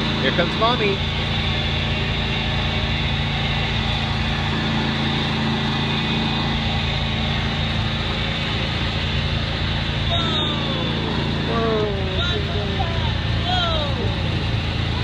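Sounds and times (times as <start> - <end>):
ride-on train motor hum: 0.0 - 15.0.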